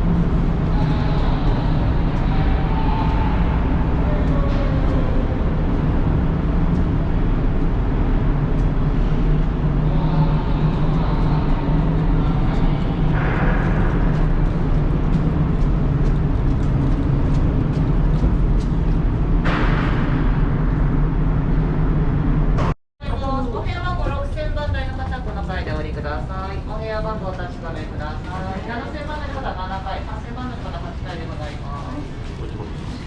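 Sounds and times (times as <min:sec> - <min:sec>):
low vehicle rumble: 0:00.0 - 0:29.6.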